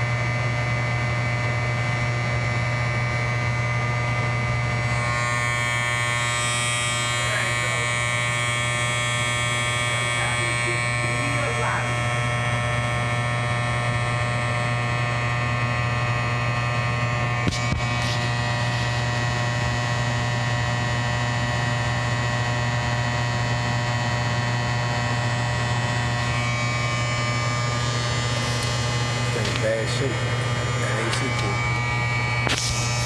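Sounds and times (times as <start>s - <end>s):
contactor buzzing: 0.0s - 33.0s.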